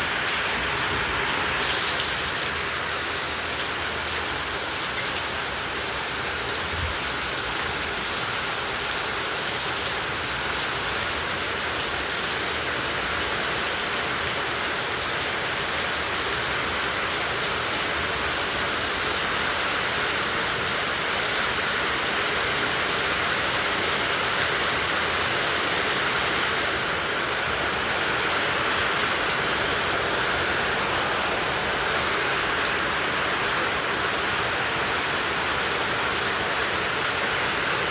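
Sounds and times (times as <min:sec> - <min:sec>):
heavy rain hissing on surfaces: 0:00.0 - 0:37.9.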